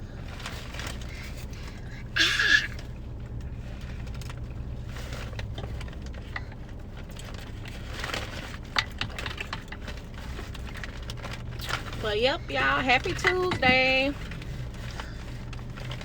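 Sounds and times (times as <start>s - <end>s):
car engine idling: 0.0s - 16.0s
food handling clicks and crackles: 0.0s - 16.0s.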